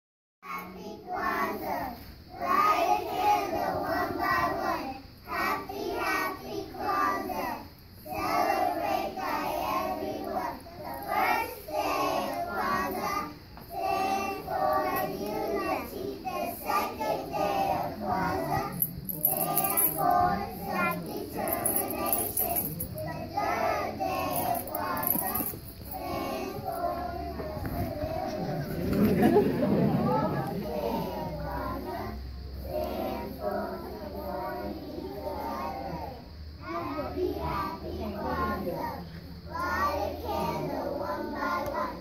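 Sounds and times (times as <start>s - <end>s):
children singing together: 0.4s - 42.0s.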